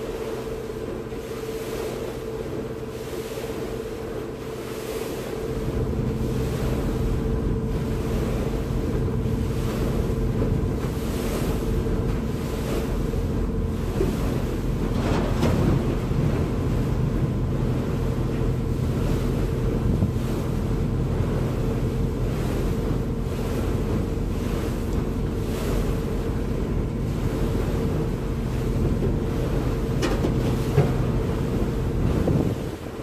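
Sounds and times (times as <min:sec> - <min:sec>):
rushing water: 0:00.0 - 0:33.0
wind on microphone: 0:05.5 - 0:33.0.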